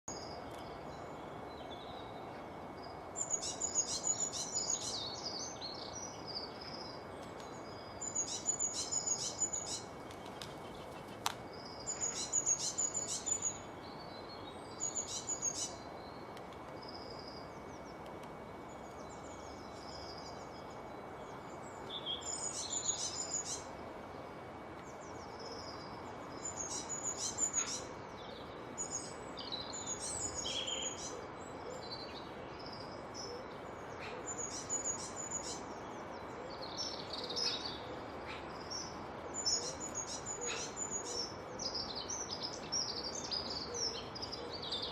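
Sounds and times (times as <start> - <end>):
small birds twittering: 0.0 - 44.9
background hiss: 0.1 - 44.9.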